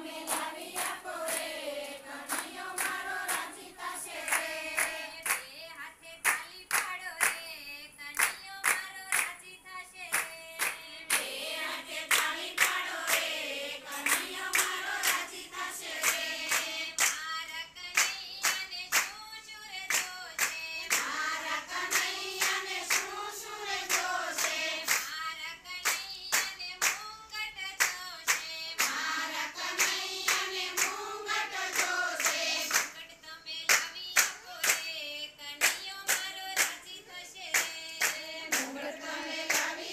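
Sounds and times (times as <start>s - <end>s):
hands clapping in rhythm: 0.0s - 5.6s, 6.2s - 39.9s
women singing in unison: 0.0s - 39.9s.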